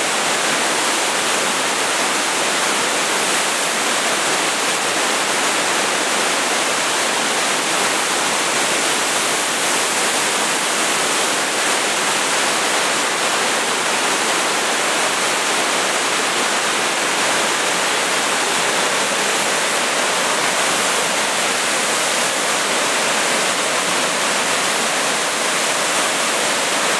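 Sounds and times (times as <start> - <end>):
floodwater rushing through spillway: 0.0 - 26.9.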